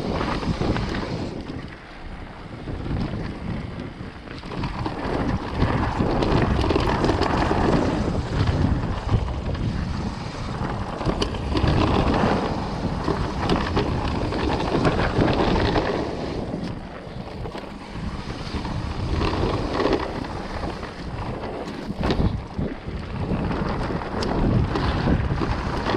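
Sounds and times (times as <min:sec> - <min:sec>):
bike knocking and rattling: 0:00.0 - 0:25.9
wind buffeting microphone: 0:00.0 - 0:25.9.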